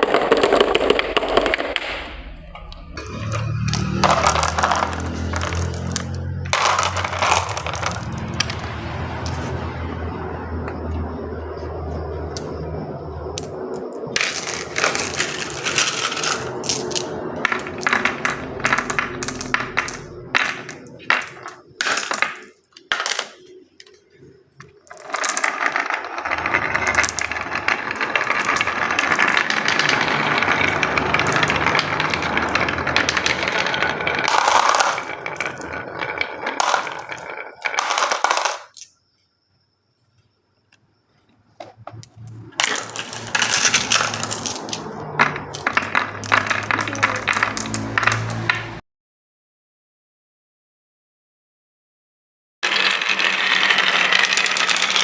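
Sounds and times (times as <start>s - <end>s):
marbles clattering down marble run: 0.0s - 11.1s, 12.3s - 39.0s, 41.8s - 48.8s, 52.6s - 55.0s.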